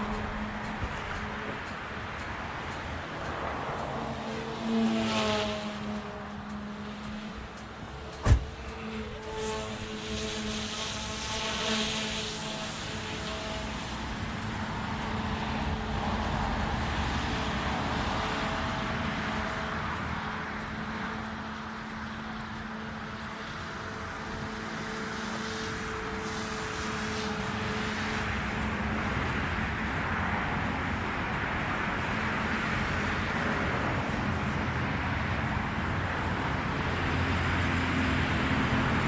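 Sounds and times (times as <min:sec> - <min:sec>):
rc helicopter rotor hum: 0:00.0 - 0:39.0.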